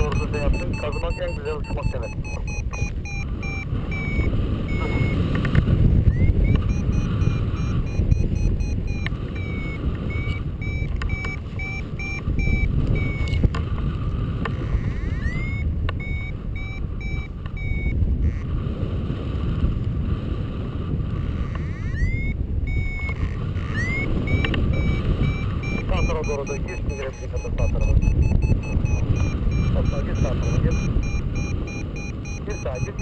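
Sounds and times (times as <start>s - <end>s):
variometer beeping rapid pips: 0.0s - 13.5s, 14.6s - 18.0s, 21.7s - 33.0s
wind rushing over microphone: 0.0s - 33.0s.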